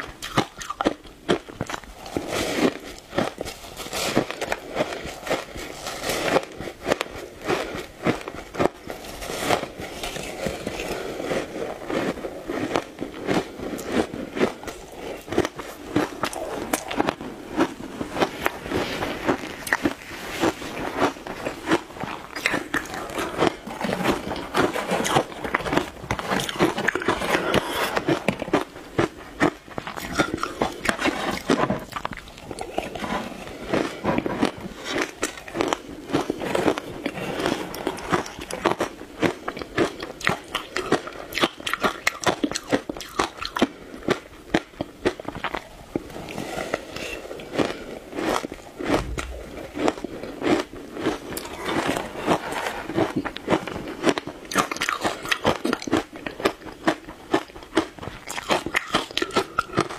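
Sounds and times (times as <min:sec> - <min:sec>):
shaved ice crunching when chewed: 0:00.0 - 0:59.9.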